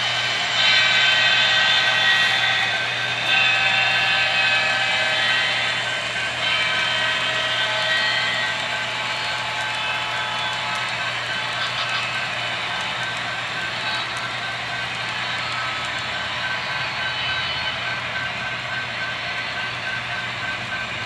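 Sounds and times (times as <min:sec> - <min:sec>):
whining model train engine: 0:00.0 - 0:21.0.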